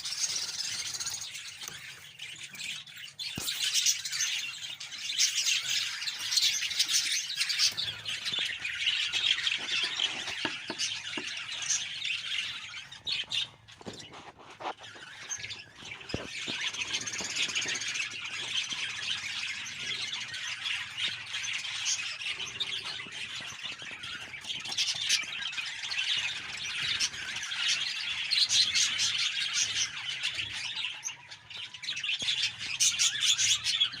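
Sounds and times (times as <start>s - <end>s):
budgies chattering and squawking: 0.0s - 34.0s.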